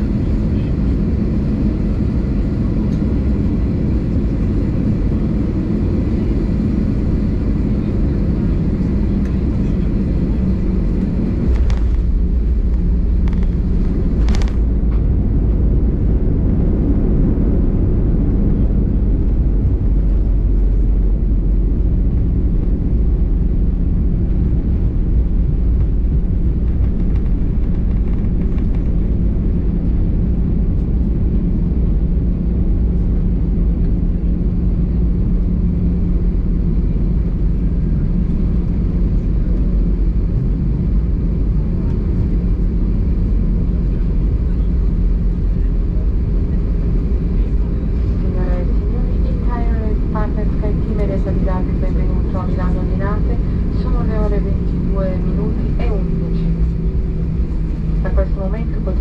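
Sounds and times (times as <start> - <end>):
aircraft engines rumbling: 0.0 - 59.0.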